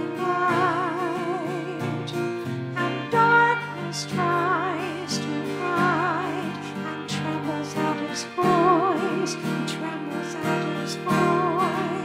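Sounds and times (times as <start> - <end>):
acoustic guitar strumming: 0.0 - 12.0
person singing with vibrato: 0.0 - 12.0.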